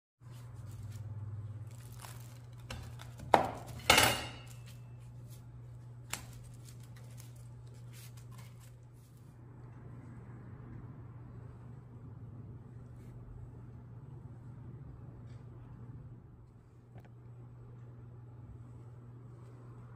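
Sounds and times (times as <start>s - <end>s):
steady low hum: 0.2s - 19.9s.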